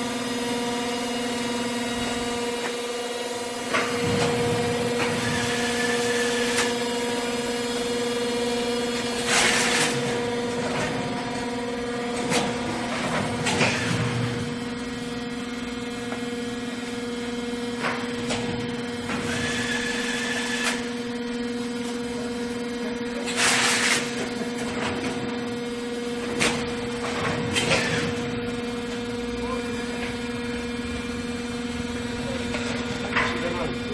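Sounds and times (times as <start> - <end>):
strapping machine hum: 0.1 - 33.9.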